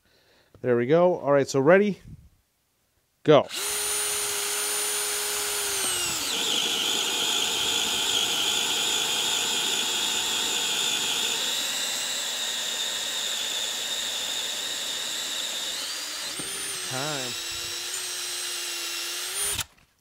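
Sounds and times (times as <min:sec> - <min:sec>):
hammer drill whining under load: 0:03.5 - 0:19.8.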